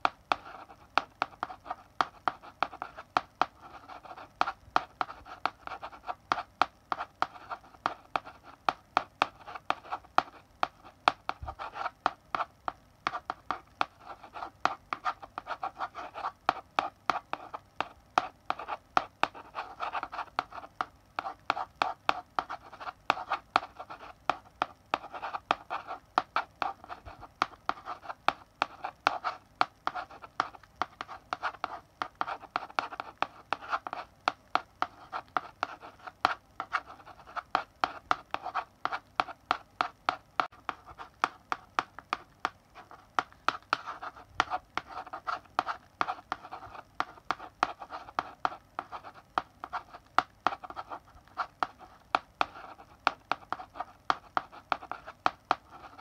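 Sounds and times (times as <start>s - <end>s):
chalk writing on blackboard: 0.0s - 56.0s.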